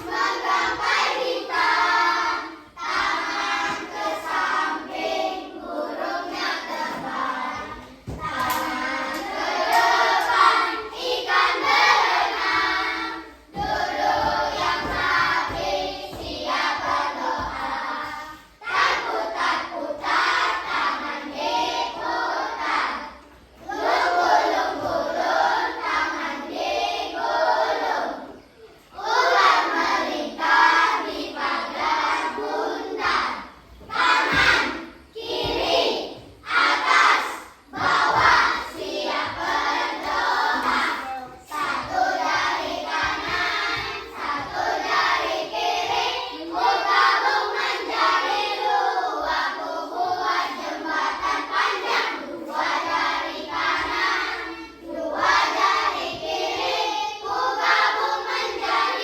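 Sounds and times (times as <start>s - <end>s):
children singing in unison: 0.0s - 59.0s.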